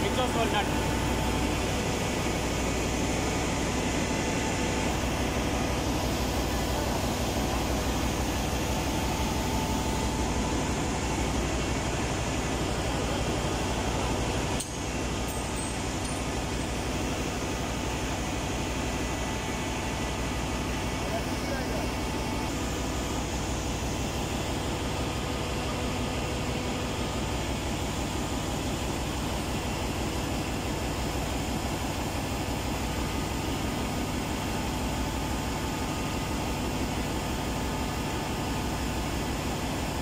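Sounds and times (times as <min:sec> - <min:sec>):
running machinery hum: 0:00.0 - 0:40.0
ventilation fans rushing: 0:00.0 - 0:40.0.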